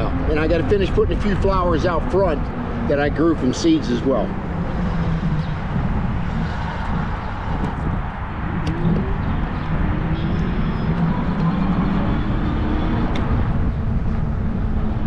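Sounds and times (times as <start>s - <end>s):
faint rising whine: 0.0s - 15.0s
wind rumbling on microphone: 0.0s - 15.0s.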